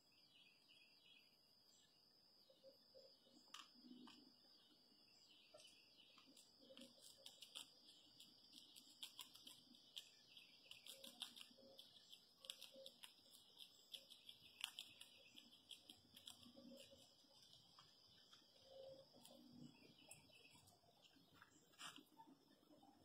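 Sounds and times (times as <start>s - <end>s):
squirrel crunching seeds: 3.4s - 4.7s, 5.5s - 23.0s.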